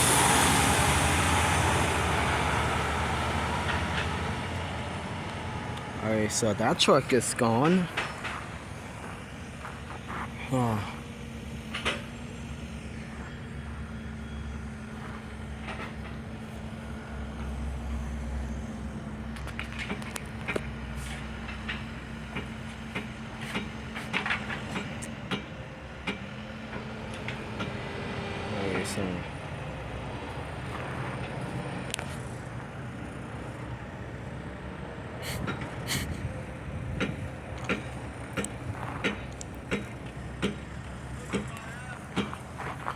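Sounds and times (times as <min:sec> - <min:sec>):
diesel engines rumbling: 0:00.0 - 0:42.9.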